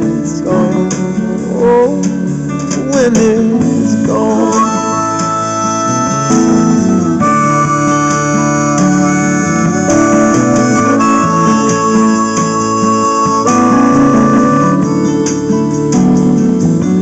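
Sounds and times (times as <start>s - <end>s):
guitar: 0.0s - 17.0s
held keyboard chords: 0.0s - 17.0s.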